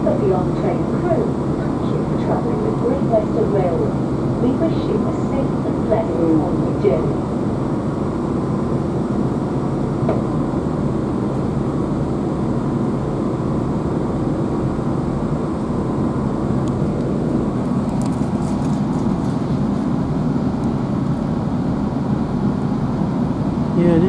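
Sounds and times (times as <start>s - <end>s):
train diesel engine and wheels rumbling: 0.0s - 24.0s.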